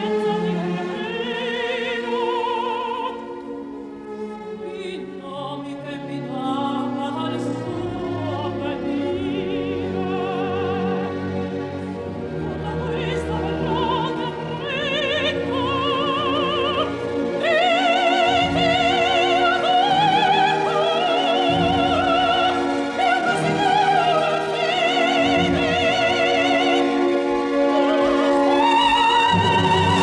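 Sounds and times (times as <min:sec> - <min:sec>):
full orchestra: 0:00.0 - 0:30.0
operatic soprano singing: 0:00.0 - 0:30.0.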